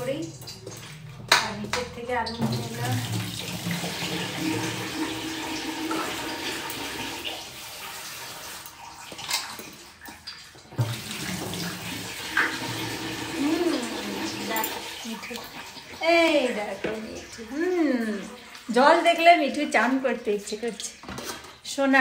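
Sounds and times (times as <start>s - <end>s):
tap water splashing into sink: 0.1s - 21.7s.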